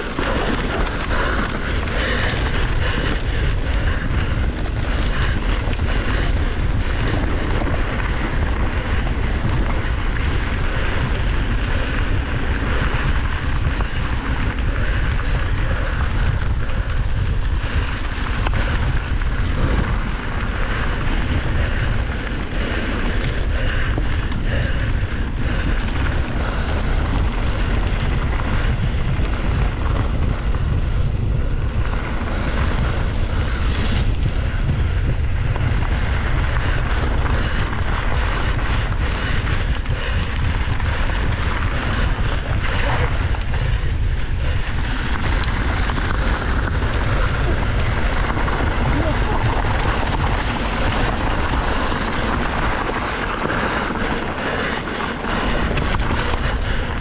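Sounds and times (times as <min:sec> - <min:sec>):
tyres crunching on loose trail: 0:00.0 - 0:57.0
wind buffeting microphone: 0:00.0 - 0:57.0.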